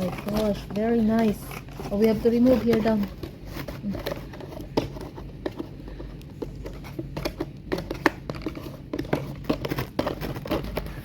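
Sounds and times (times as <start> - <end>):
plastic and cardboard packaging rustling: 0.0 - 11.0.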